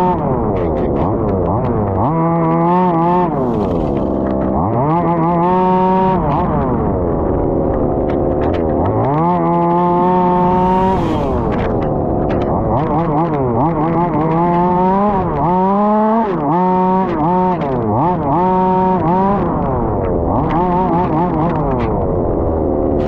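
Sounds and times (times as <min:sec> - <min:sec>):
small two-stroke engine revving: 0:00.0 - 0:23.0.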